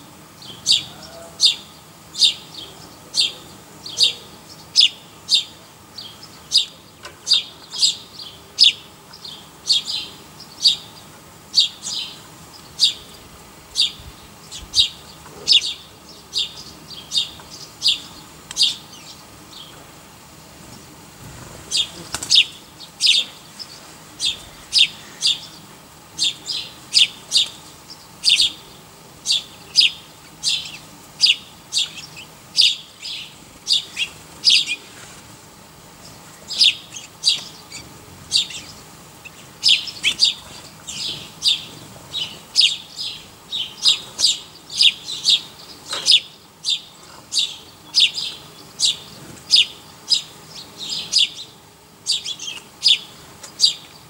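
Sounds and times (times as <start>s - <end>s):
bird chirping: 0.4s - 19.8s, 21.7s - 34.9s, 36.0s - 54.0s.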